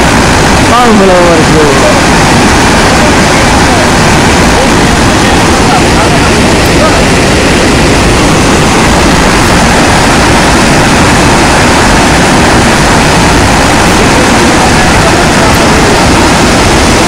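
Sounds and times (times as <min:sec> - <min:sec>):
water rushing over wall: 0:00.0 - 0:17.0.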